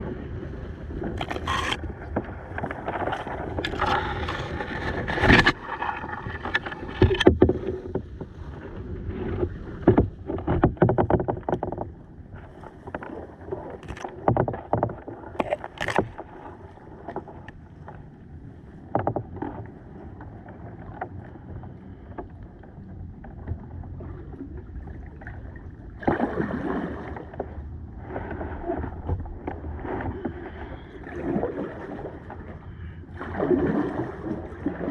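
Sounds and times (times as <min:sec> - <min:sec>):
paddle splashes and knocks: 0:00.9 - 0:18.1, 0:18.8 - 0:22.4, 0:23.0 - 0:34.9.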